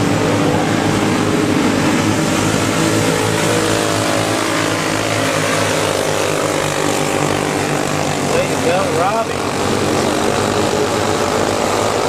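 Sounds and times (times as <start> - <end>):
go-kart engines racing: 0.0 - 12.0.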